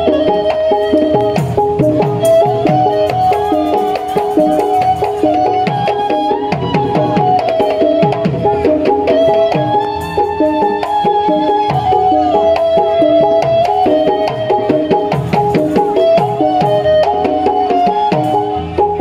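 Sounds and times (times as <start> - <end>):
barrel drum rhythm: 0.0 - 19.0
sustained melody: 0.0 - 19.0.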